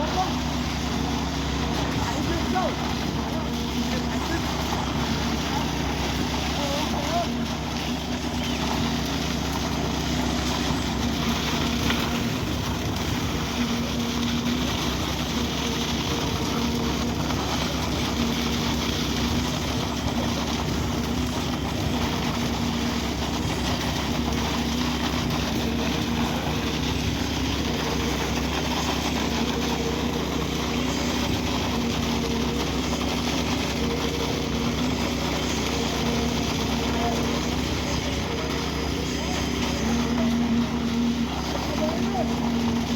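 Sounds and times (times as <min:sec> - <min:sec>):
construction machinery engine droning: 0:00.0 - 0:42.9.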